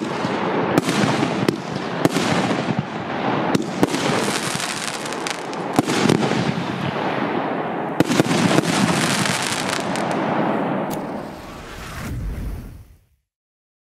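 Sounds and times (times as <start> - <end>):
firework reports and crackling: 0.0 - 13.2.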